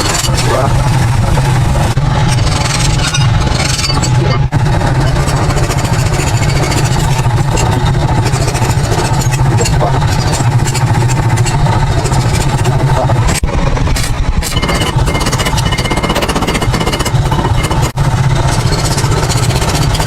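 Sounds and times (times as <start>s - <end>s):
power tool grinding: 0.0s - 20.0s.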